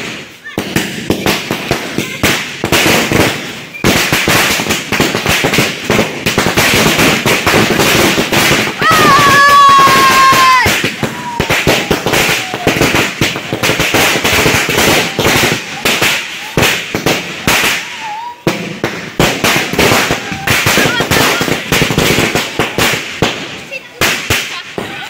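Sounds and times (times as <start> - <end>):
firecrackers cracking and banging: 0.0 - 25.0.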